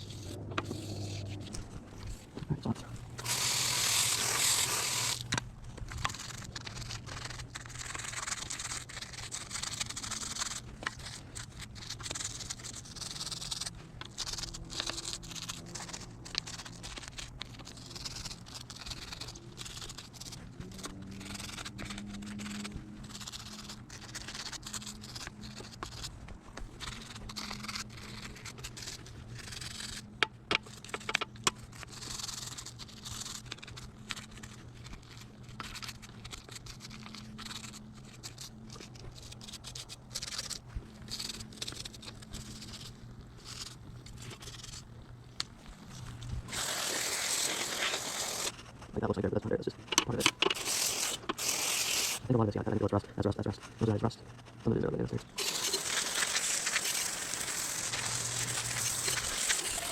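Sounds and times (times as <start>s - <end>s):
stiff brush scrubbing: 0.0s - 59.9s.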